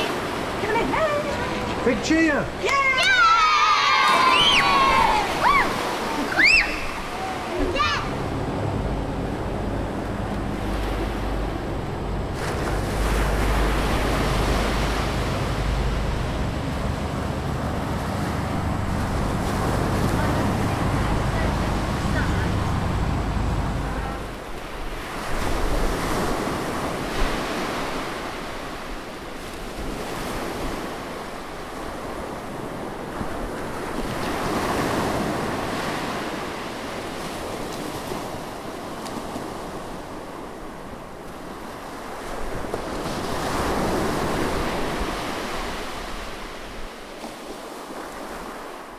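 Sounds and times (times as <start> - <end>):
wind buffeting microphone: 0.0 - 48.7
sea waves washing in: 0.0 - 48.9.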